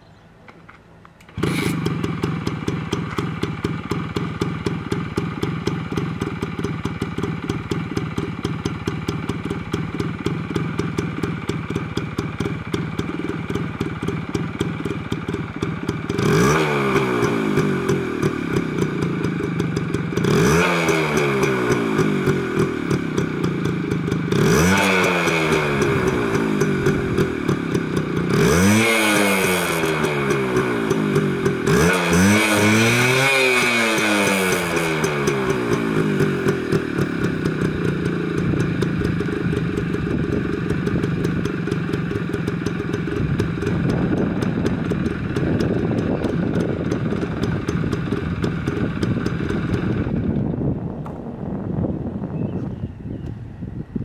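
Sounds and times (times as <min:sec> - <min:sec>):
motorcycle engine idling: 0:00.0 - 0:54.0
engine revving: 0:01.3 - 0:08.2, 0:12.3 - 0:50.8.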